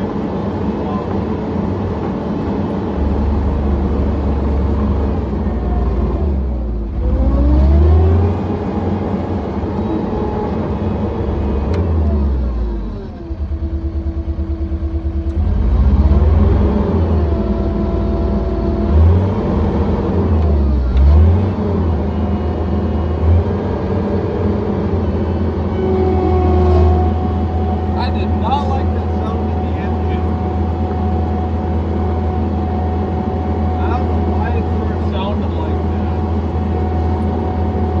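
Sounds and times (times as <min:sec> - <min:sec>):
skid steer engine revving: 0:00.0 - 0:38.0.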